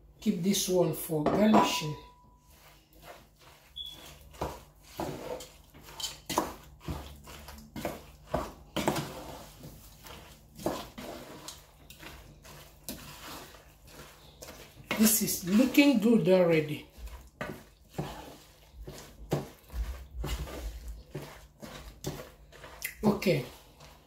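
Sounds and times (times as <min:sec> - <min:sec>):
wooden spoon scraping a pot: 0:00.2 - 0:24.0.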